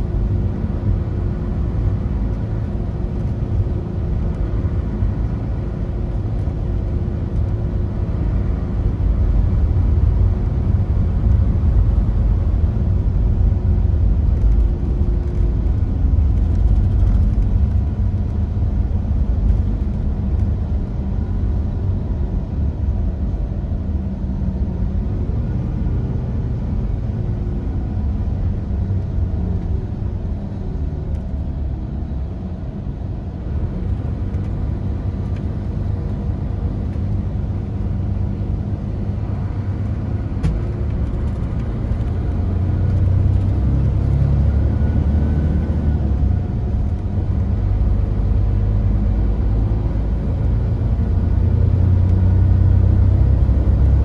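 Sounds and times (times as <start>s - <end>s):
coach engine and road rumble: 0.0s - 54.0s.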